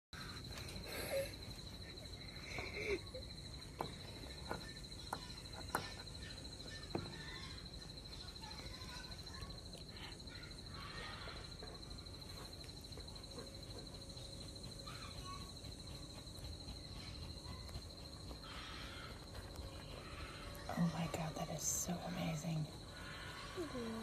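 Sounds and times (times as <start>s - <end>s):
cricket trilling: 0.2s - 24.0s.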